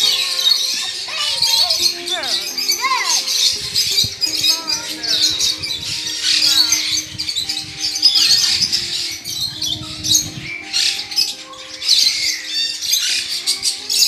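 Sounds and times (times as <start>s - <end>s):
birds chirping and squawking: 0.0s - 14.0s
music with held notes: 0.0s - 14.0s.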